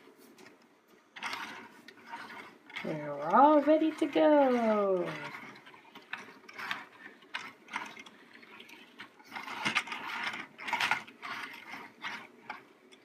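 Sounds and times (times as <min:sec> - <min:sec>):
plastic toy clicking and rattling: 0:00.4 - 0:13.0.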